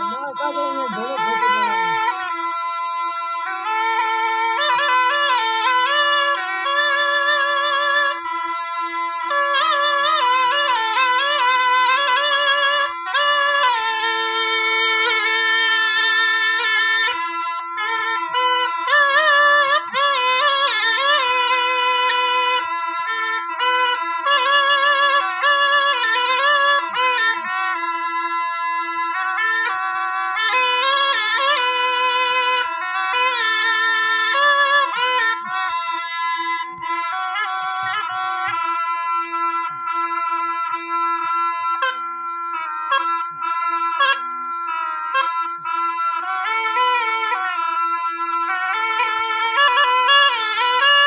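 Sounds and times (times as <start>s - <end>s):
reedy wind instrument melody: 0.0s - 51.0s.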